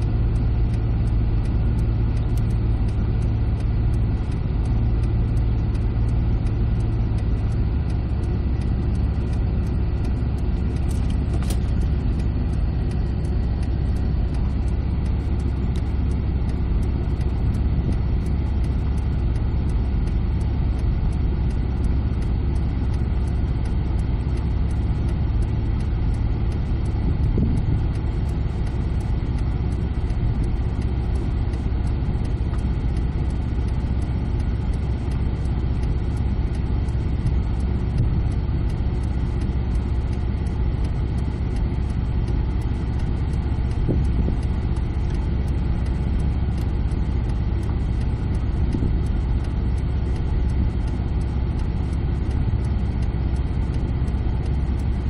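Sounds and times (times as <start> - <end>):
car engine low rumble: 0.0 - 55.0.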